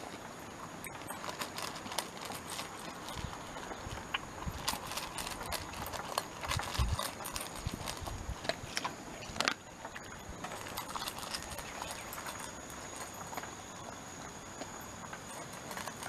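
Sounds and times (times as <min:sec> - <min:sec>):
dog crunching dry kibble: 0:00.0 - 0:16.0.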